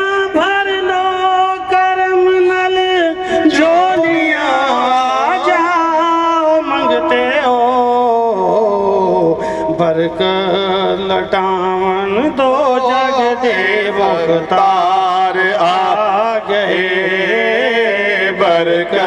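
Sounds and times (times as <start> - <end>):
man singing through loudspeakers: 0.0 - 19.0.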